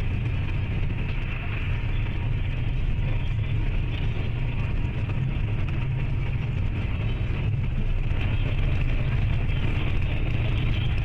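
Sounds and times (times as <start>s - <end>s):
moving road vehicle rumble: 0.0s - 11.0s.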